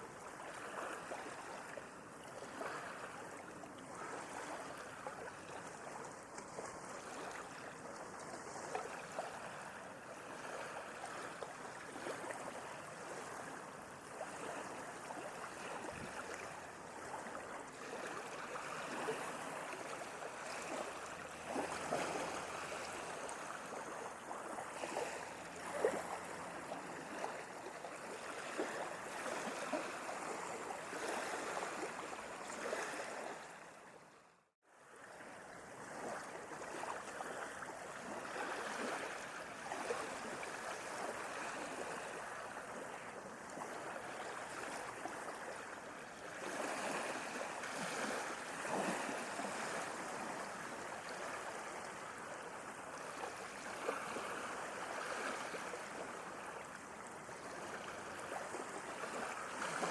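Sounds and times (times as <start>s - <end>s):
sea water splashing and lapping: 0.0s - 59.9s.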